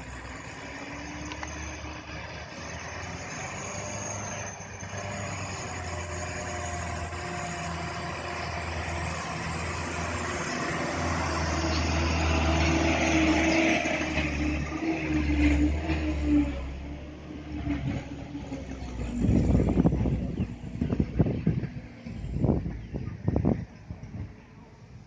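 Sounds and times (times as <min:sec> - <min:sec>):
heavy truck engine running: 0:00.0 - 0:25.0.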